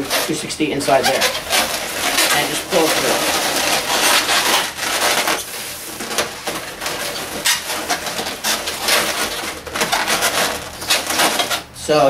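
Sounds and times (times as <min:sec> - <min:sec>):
balloons squeaking and rubbing: 0:00.0 - 0:11.8.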